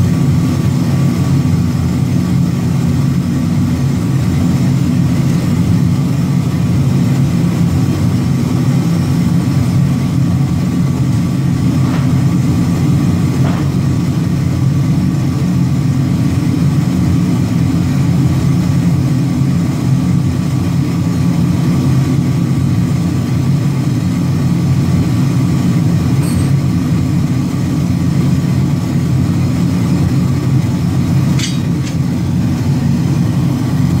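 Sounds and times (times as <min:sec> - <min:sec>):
heavy machinery droning: 0:00.0 - 0:34.0.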